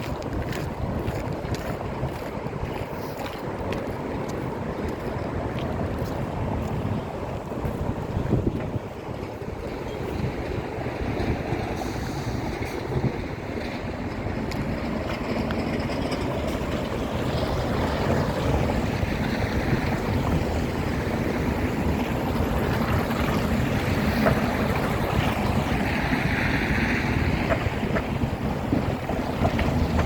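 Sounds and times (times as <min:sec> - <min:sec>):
low rumbling outdoor noise: 0:00.0 - 0:30.0.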